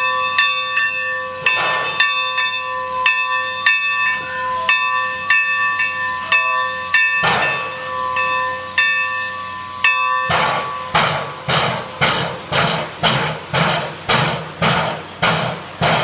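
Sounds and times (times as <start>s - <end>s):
locomotive bell ringing: 0.0s - 13.1s
rush of steam exhaust: 0.0s - 16.0s
steam hissing: 0.0s - 16.0s.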